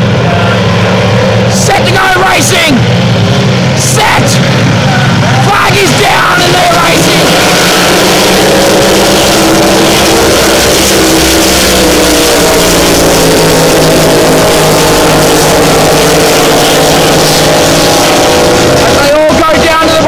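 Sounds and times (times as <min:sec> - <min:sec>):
race boat engines droning: 0:00.0 - 0:20.0.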